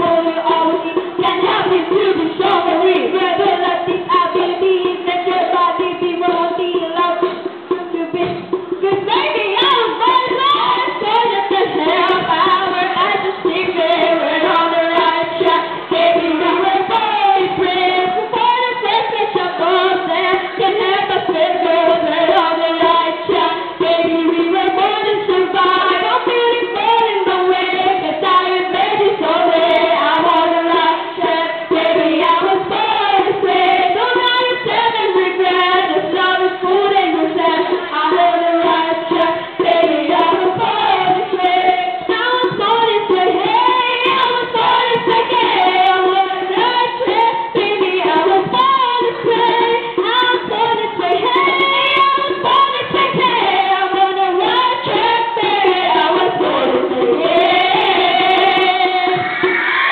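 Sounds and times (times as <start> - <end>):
girls singing pop song: 0.0 - 59.9.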